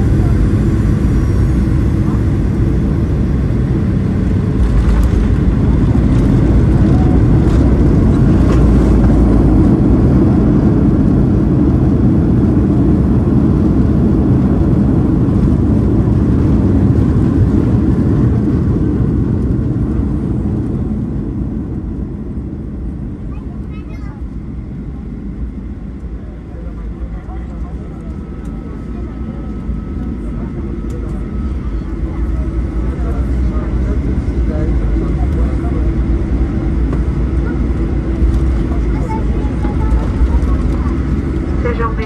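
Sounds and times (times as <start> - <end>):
jet engines and runway rumble: 0.0 - 42.0.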